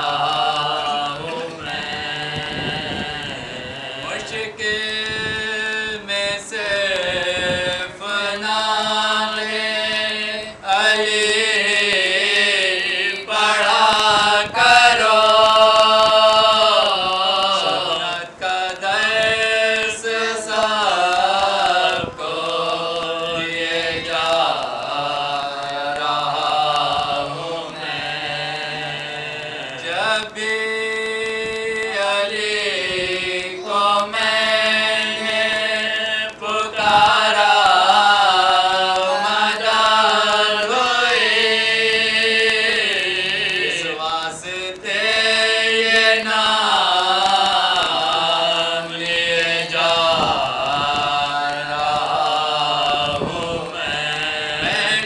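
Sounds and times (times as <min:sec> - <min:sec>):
men chanting an elegy: 0:00.0 - 0:55.0.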